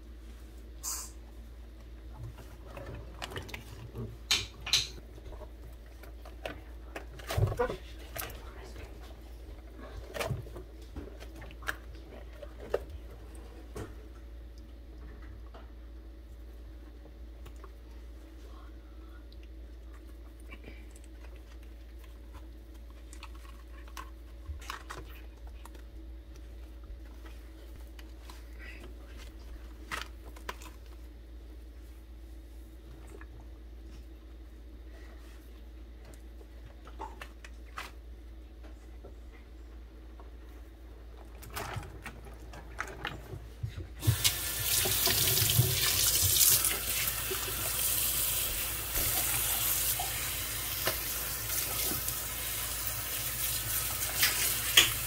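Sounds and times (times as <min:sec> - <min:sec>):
steady low hum: 0:00.0 - 0:53.1.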